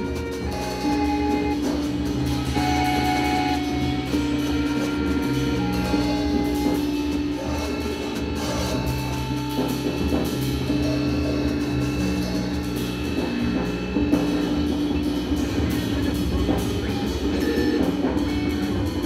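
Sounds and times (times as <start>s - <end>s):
drum and cymbal playing: 0.0s - 19.0s
keyboard long held tones: 0.0s - 19.0s
low bass notes: 0.0s - 19.0s.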